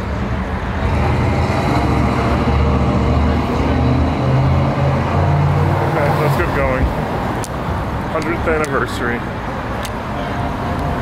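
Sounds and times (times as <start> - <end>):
street traffic: 0.0 - 11.0
vehicle engine droning: 0.0 - 11.0.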